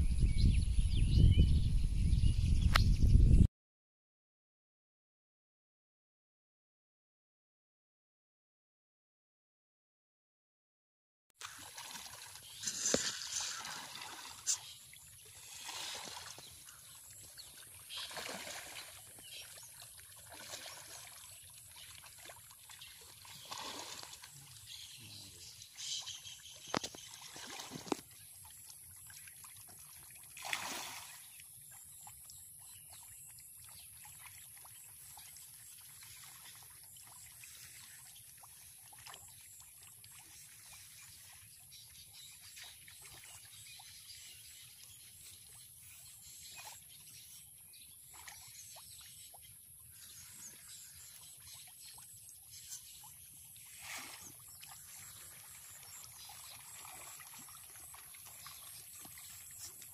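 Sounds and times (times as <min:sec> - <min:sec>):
pond water trickling and lapping: 0:11.4 - 0:59.9.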